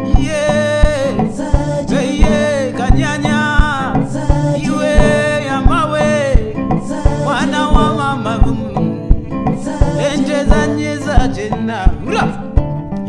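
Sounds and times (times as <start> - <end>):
man singing folk song: 0.0 - 12.6
low drum beat: 0.0 - 12.8
plucked harp: 0.1 - 13.0.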